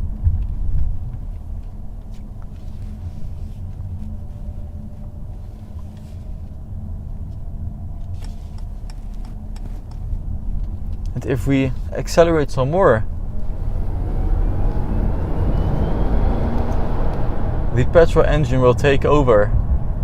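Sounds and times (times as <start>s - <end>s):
tyre and road rumble: 0.0s - 20.0s.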